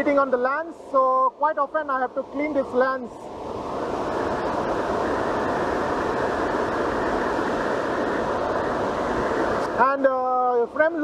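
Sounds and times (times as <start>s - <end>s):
waterfall roaring onto rocks: 0.0s - 11.0s.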